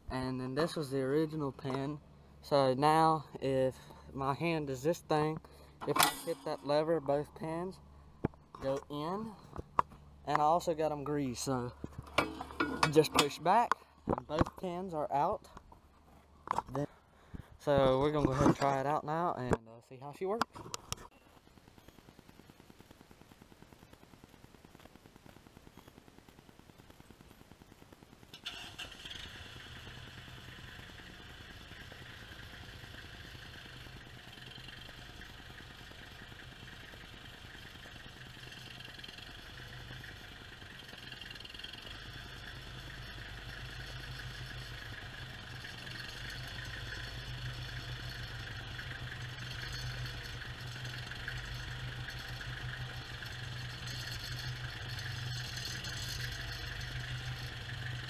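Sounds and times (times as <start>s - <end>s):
tractor diesel engine running: 0.0s - 18.0s, 28.4s - 58.0s.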